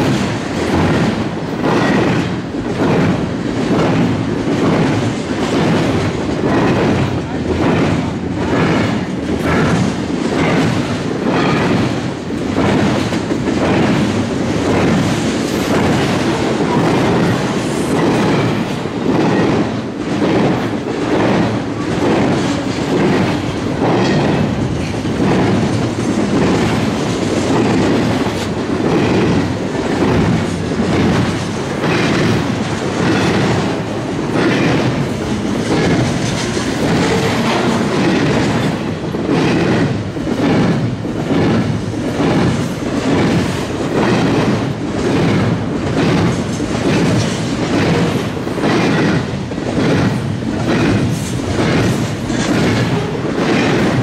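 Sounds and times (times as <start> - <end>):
wheels clicking over rail joints: 0.0 - 54.0.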